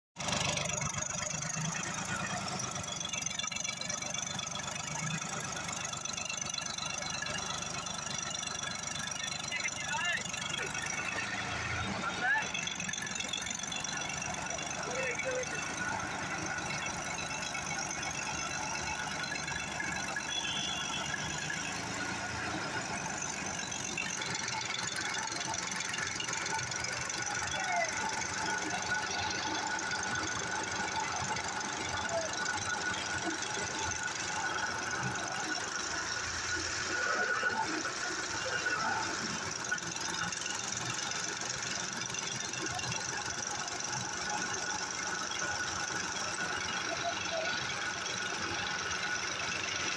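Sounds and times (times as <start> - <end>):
diesel engine idling: 0.2 - 49.9.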